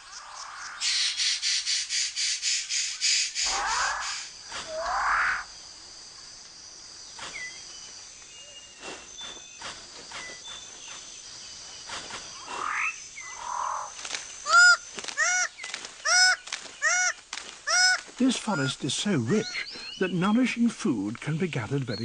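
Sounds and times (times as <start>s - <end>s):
birds calling and whistling: 0.0s - 5.5s, 7.0s - 22.0s
rapidly repeated bird calls: 0.0s - 5.5s, 6.8s - 20.6s
forest ambience with high tones: 0.0s - 22.0s.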